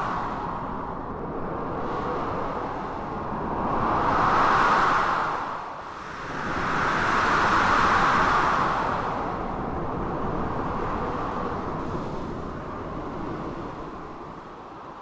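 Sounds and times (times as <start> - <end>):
blizzard wind: 0.0 - 15.0.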